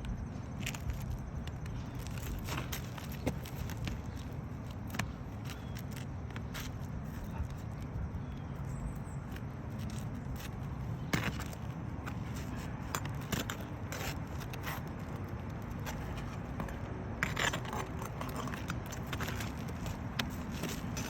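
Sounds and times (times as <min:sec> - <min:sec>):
scrapes and clicks on roof shingles: 0:00.5 - 0:21.0.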